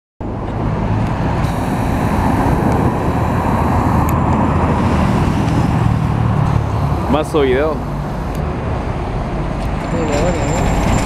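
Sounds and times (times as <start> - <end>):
road traffic rumble: 0.2 - 11.0.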